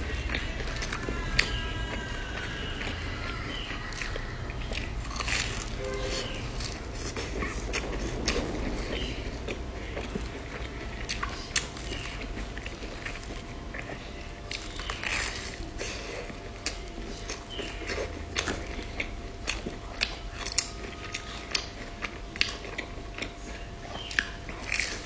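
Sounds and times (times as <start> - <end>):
faint steady hum: 0.0 - 25.0
person chewing fried bread: 0.0 - 25.0.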